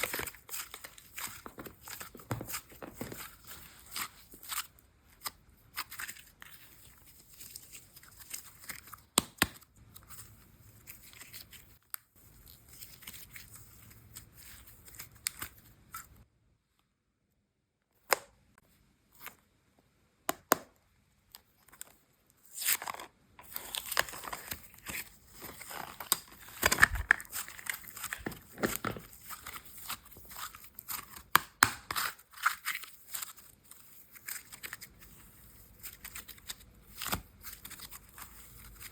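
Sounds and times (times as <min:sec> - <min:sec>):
slime crackling and crinkling: 0:00.0 - 0:16.2, 0:21.4 - 0:38.9.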